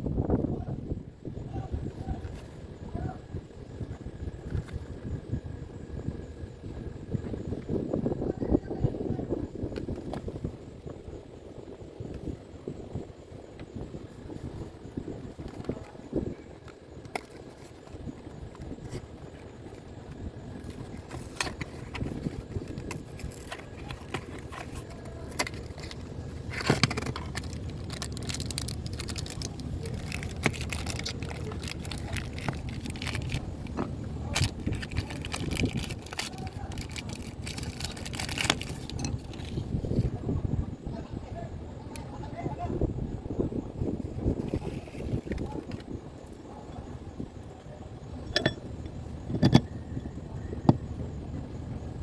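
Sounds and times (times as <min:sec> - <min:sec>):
low background rumble: 0:00.0 - 0:52.0.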